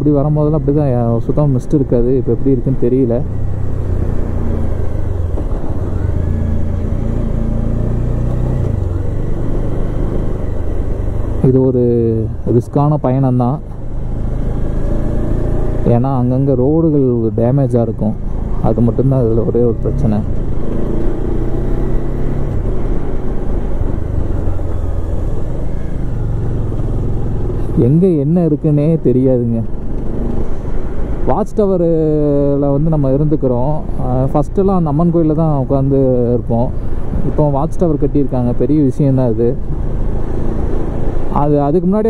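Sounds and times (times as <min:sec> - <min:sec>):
motorcycle engine running: 0:00.1 - 0:42.0.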